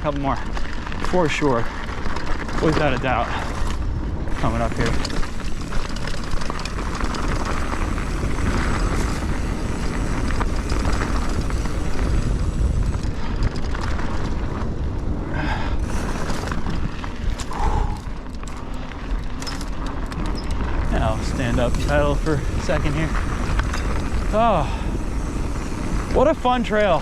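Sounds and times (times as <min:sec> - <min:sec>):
bike clicks: 0:00.0 - 0:27.0
bike tyres rolling on dirt: 0:00.0 - 0:27.0
wind rumbling on microphone: 0:00.0 - 0:27.0.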